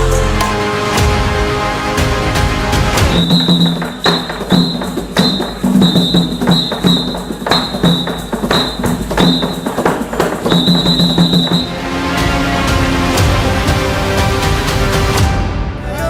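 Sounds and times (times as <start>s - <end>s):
sharp percussion hits: 0.0s - 1.6s, 2.9s - 15.4s.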